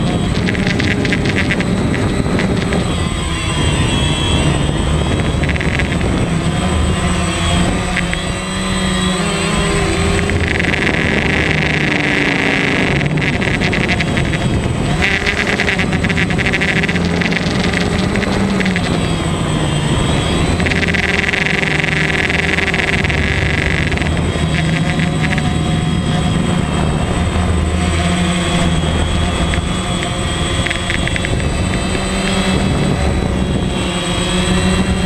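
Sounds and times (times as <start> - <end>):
drone propellers buzzing: 0.0 - 35.0
high-pitched whine: 0.0 - 35.0.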